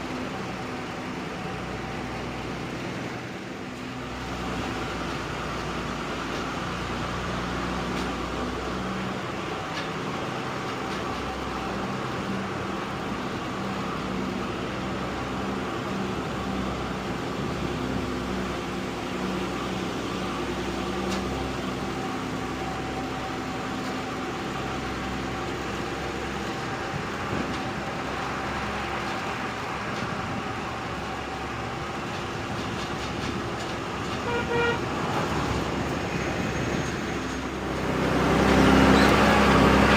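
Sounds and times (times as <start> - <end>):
road and drivetrain noise: 0.0 - 39.9
truck diesel engine running: 0.0 - 39.9.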